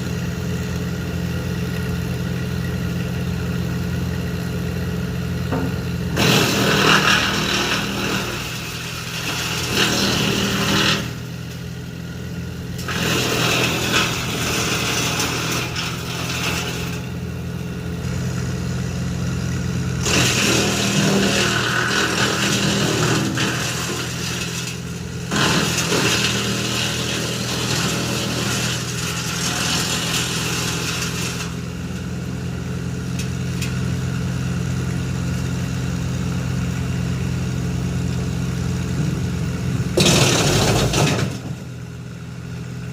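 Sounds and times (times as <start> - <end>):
tractor engine running: 0.0 - 42.9
wood chipper chipping brush: 0.0 - 42.9.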